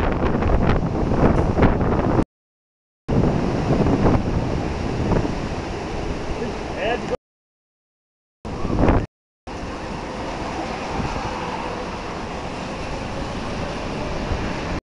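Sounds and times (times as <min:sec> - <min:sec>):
strong wind rushing: 0:00.0 - 0:02.2, 0:03.1 - 0:07.1, 0:08.5 - 0:09.1, 0:09.7 - 0:14.8
wind buffeting microphone: 0:00.0 - 0:02.2, 0:03.1 - 0:07.1, 0:08.5 - 0:14.8.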